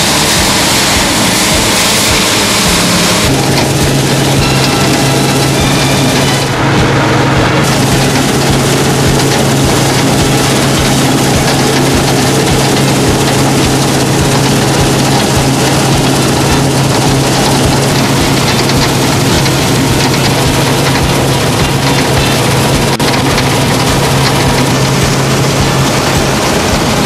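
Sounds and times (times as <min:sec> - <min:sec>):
combine harvester droning: 0:00.0 - 0:27.0.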